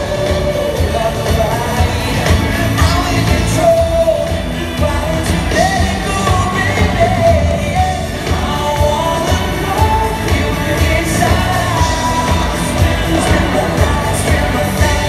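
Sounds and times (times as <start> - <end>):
live pop-rock band playing: 0.0 - 15.0
man singing lead: 0.0 - 15.0.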